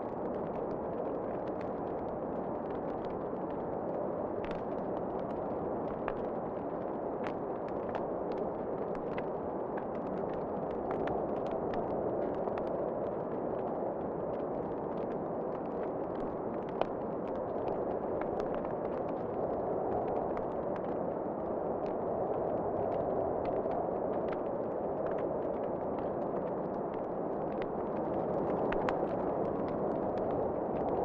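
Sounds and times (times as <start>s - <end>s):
howling wind: 0.0s - 31.0s.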